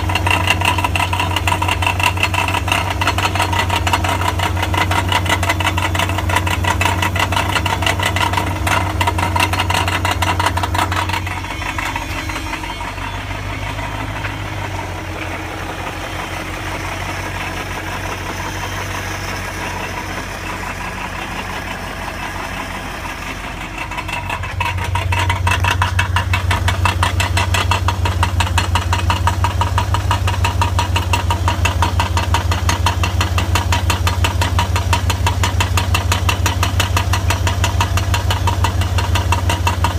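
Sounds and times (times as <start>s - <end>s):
car engine rattling: 0.0s - 39.9s.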